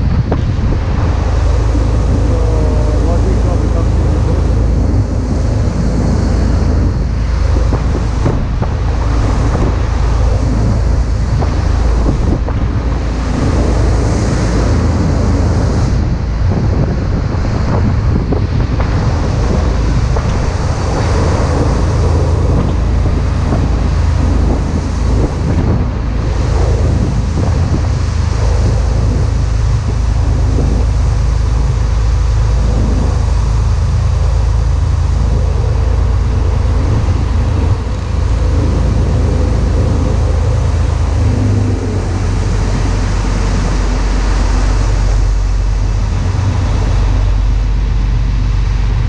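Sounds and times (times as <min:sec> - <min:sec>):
boat engines droning: 0:00.0 - 0:49.0
churning wake rushing: 0:00.0 - 0:49.0
wind buffeting microphone: 0:00.0 - 0:49.0.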